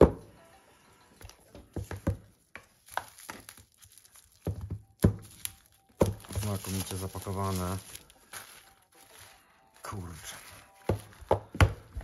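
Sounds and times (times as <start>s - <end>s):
faint crinkles: 2.2s - 12.0s.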